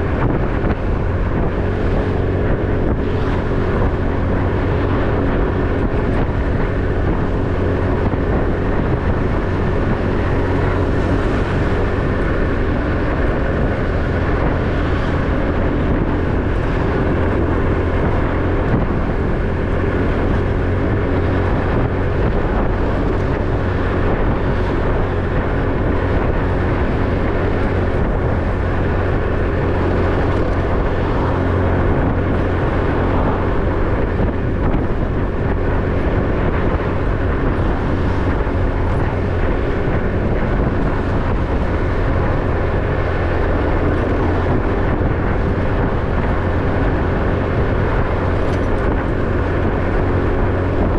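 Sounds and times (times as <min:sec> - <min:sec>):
motorbike engine cruising: 0:00.0 - 0:50.9
road and wind noise: 0:00.0 - 0:50.9.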